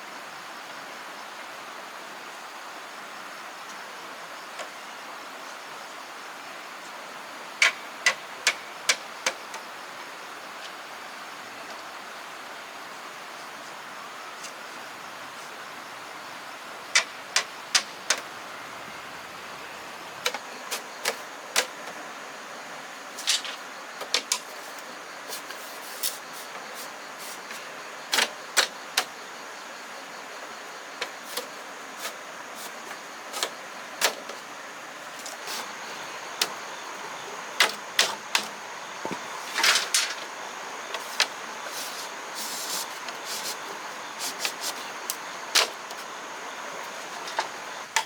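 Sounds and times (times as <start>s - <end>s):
steady background hiss: 0.0s - 48.0s.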